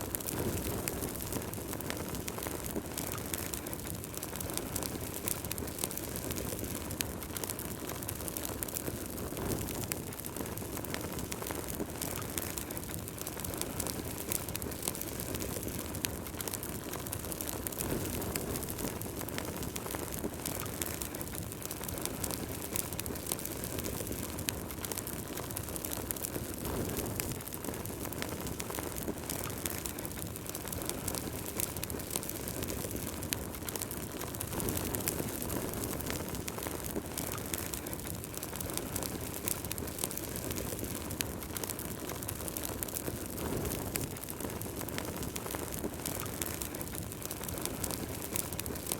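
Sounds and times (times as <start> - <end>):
fire crackling and popping: 0.0 - 48.9
fire flames rushing: 0.0 - 48.9.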